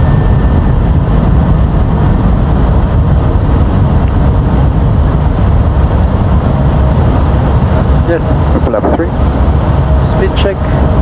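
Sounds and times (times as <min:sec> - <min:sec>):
cockpit airflow and engine rumble: 0:00.0 - 0:11.0.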